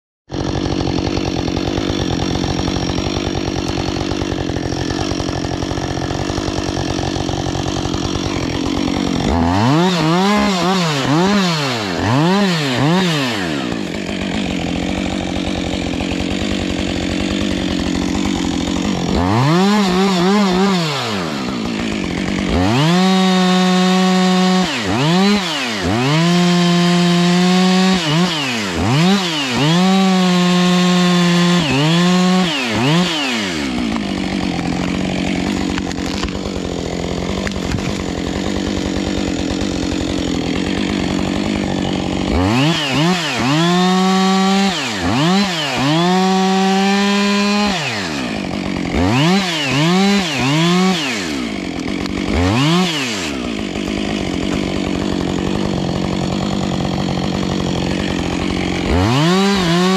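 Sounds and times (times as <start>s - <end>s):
chainsaw revving: 0.3s - 59.9s.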